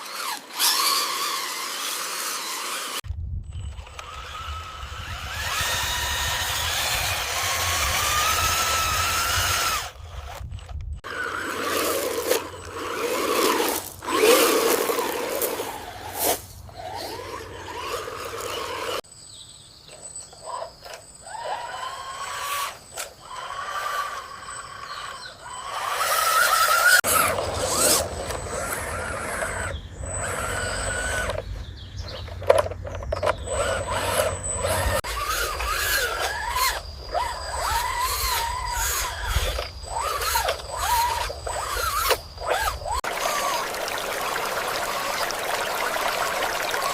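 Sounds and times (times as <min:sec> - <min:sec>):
small electric motors whining: 0:00.0 - 0:19.0, 0:19.9 - 0:46.9.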